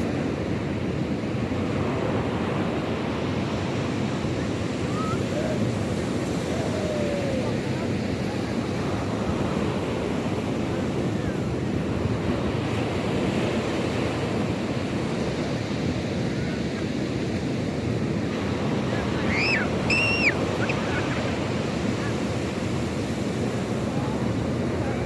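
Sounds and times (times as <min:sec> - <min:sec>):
sea surf washing: 0:00.0 - 0:25.0.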